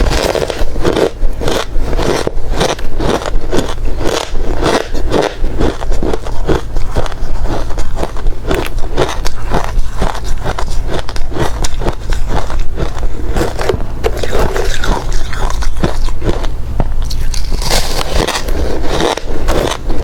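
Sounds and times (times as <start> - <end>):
faint low hum: 0.0 - 20.0
ice being chewed: 0.0 - 20.0.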